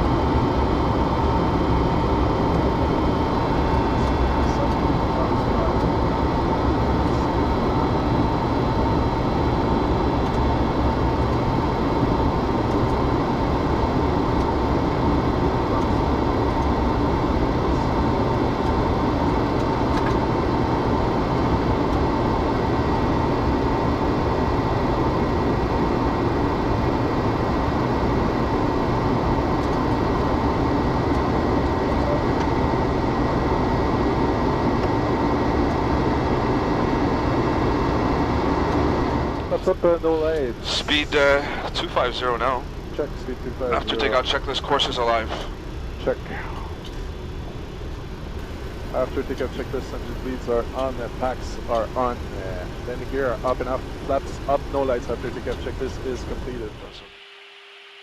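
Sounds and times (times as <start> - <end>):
jet engines at climb power: 0.0 - 58.0
thin steady whine: 0.0 - 58.0.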